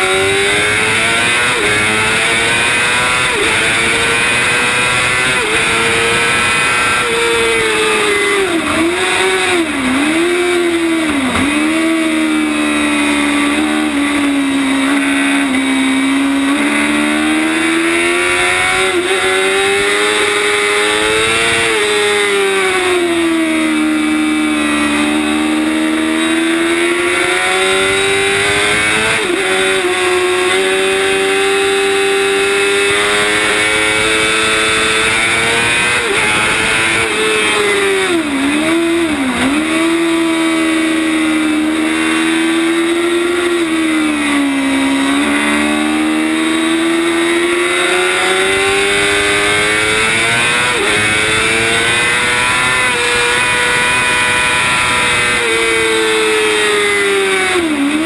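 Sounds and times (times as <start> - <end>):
motorcycle engine at racing revs: 0.0 - 58.0.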